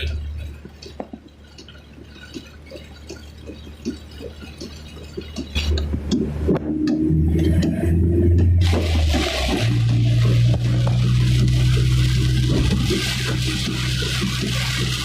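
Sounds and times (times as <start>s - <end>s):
car driving hum: 0.0s - 15.0s
raindrops ticking on car: 0.0s - 15.0s
water rushing around car: 0.0s - 15.0s.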